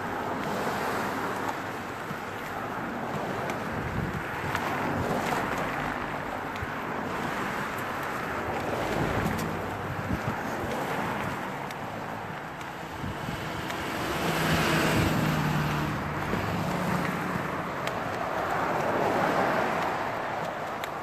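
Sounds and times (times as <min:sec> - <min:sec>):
cars passing on a road: 0:00.0 - 0:21.0.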